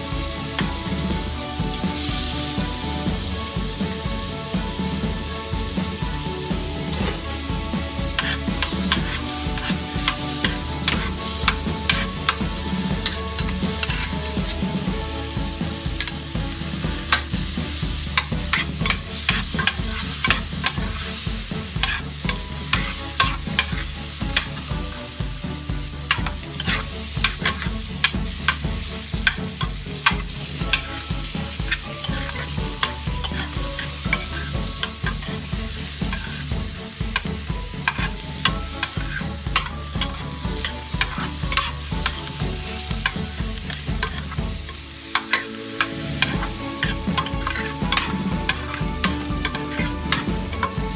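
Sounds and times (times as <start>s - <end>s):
onion sizzling in butter: 0.0s - 50.9s
spatula scraping pan: 0.0s - 50.9s.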